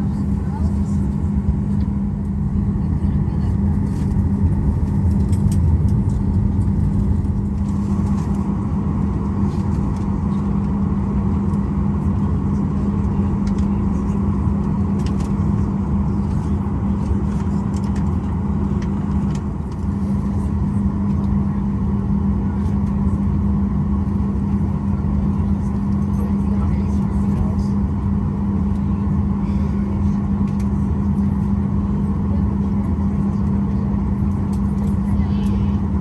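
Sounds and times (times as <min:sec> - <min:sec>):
jet engines droning: 0:00.0 - 0:36.0.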